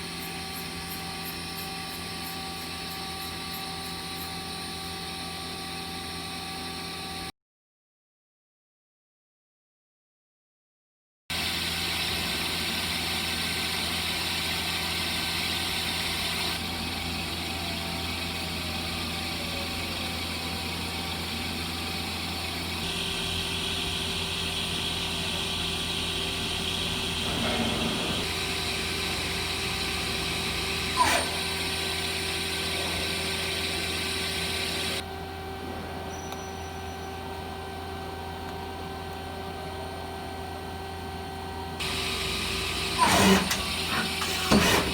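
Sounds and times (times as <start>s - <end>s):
lathe machine hum: 0.0s - 7.3s, 11.3s - 44.9s.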